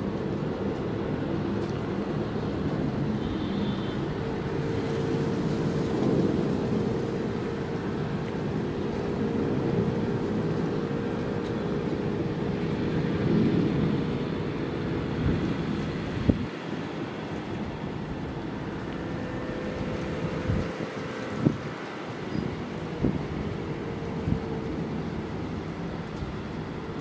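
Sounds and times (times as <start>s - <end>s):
ship engines rumbling: 0.0s - 27.0s.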